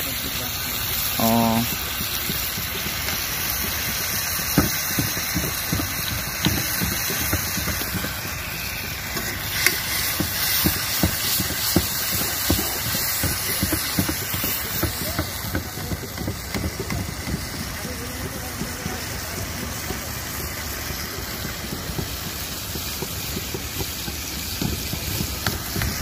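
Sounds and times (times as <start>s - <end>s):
curry sizzling with pops: 0.0s - 26.0s.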